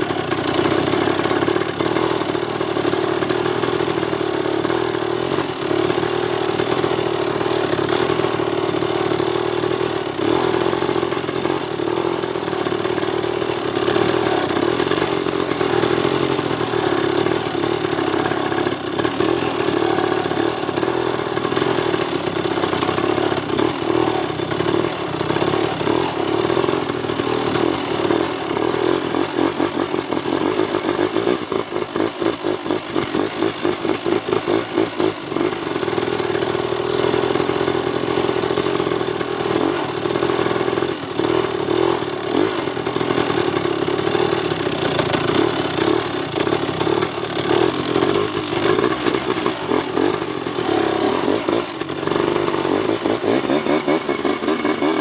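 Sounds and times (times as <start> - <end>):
small motorcycle engine: 0.0 - 55.0.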